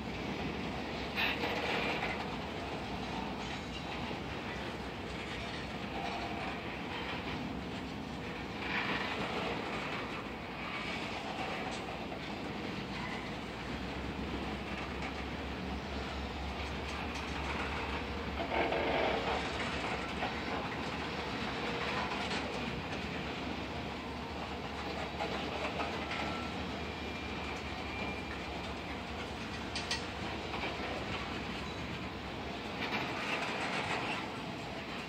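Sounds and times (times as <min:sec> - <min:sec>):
freight cars rumbling on rails: 0:00.0 - 0:35.0
wheels clicking over rail joints: 0:00.4 - 0:35.0.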